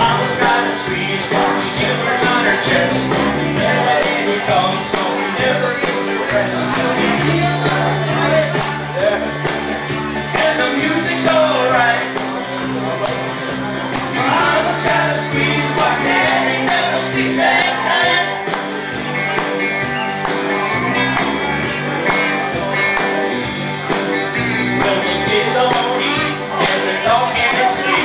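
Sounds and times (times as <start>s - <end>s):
live band playing instrumental: 0.0s - 28.0s.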